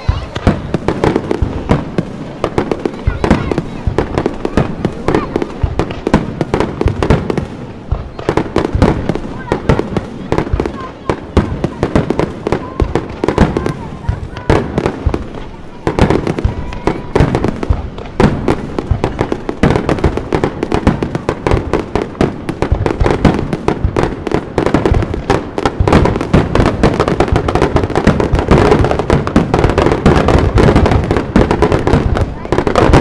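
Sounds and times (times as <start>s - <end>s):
fireworks bursting and crackling: 0.0s - 33.0s.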